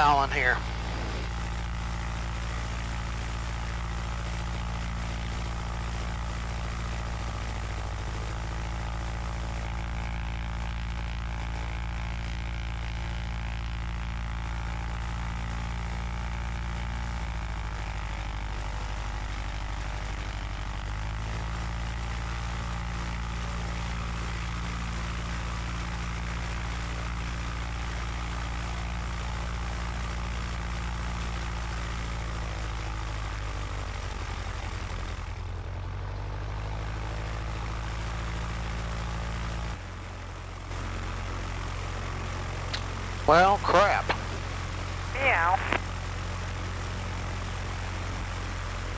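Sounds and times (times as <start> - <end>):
propeller plane engine running: 0.0 - 48.9.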